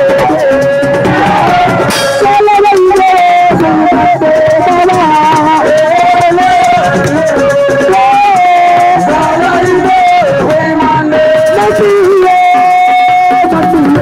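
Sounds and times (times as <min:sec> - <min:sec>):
person singing long gliding notes: 0:00.0 - 0:13.5
shaker and drum percussion: 0:00.0 - 0:14.0.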